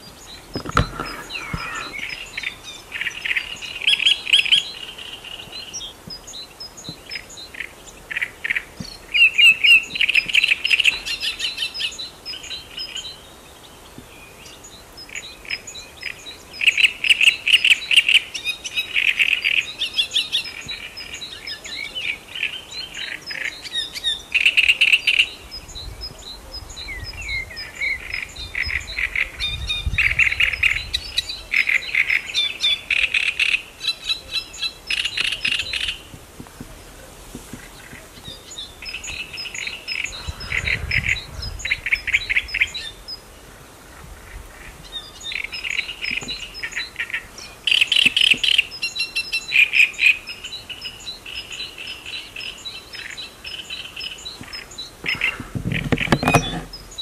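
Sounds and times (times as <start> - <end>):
bird singing chattering notes: 0.0 - 13.2, 14.3 - 43.3, 44.6 - 57.0.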